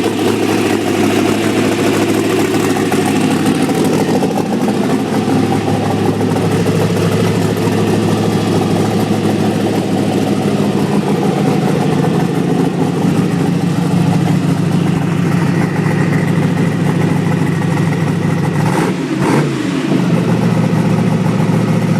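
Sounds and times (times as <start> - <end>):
engine idling and revving: 0.0 - 21.9.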